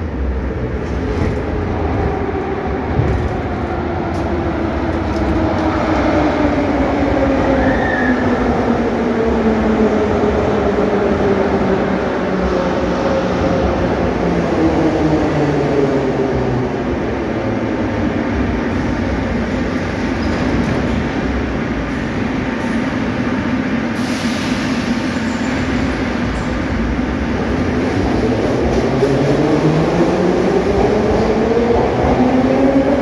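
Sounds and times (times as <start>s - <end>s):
metro train motors whining: 0.0s - 33.0s.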